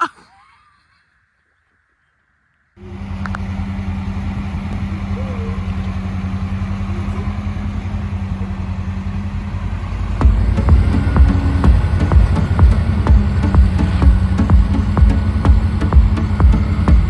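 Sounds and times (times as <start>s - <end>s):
vehicle engine running: 2.8s - 17.0s.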